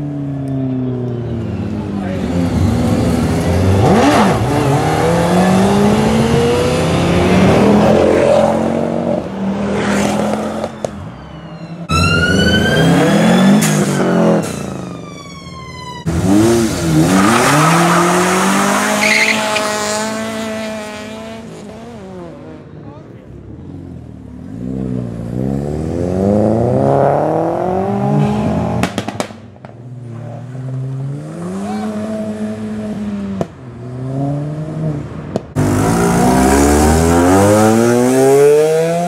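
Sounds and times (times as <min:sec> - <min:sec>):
car engines revving: 0:00.0 - 0:39.0.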